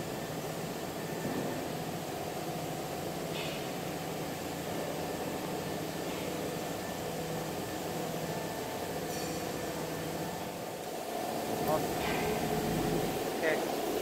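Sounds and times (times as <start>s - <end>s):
workshop machinery humming: 0.0s - 14.0s.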